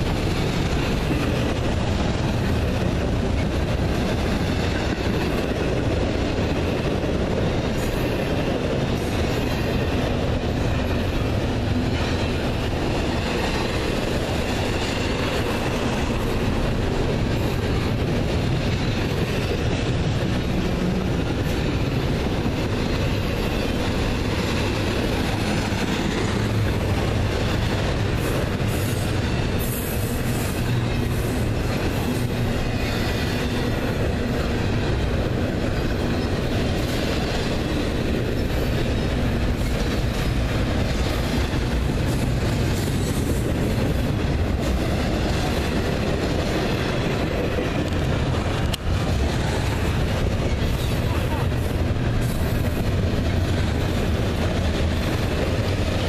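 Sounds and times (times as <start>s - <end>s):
freight train wheels rumbling and clacking: 0.0s - 56.0s.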